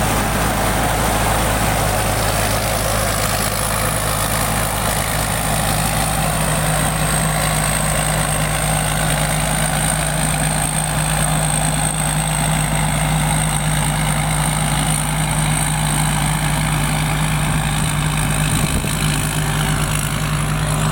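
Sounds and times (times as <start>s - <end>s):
harvester engine humming with whine: 0.0s - 20.9s.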